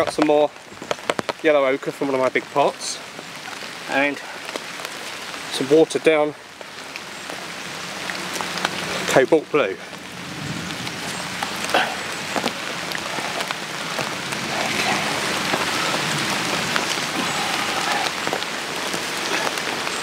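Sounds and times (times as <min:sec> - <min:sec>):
raindrops tapping close by: 0:00.0 - 0:20.0
steady rain: 0:00.0 - 0:20.0.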